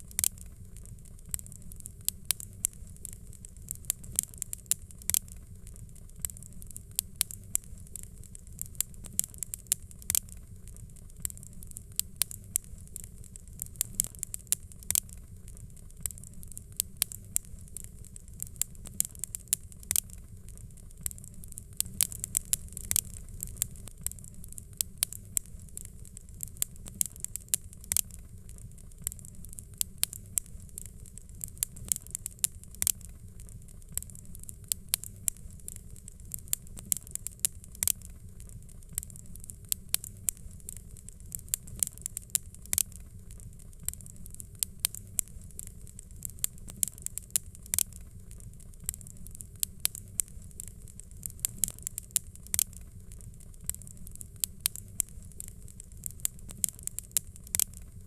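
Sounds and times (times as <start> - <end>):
fire crackling and popping: 0.0 - 58.0
low steady rumble: 0.0 - 58.0.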